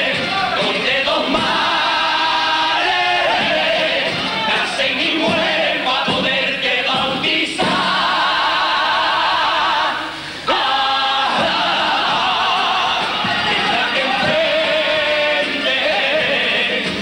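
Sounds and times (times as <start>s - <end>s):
male chorus singing in harmony: 0.0s - 17.0s.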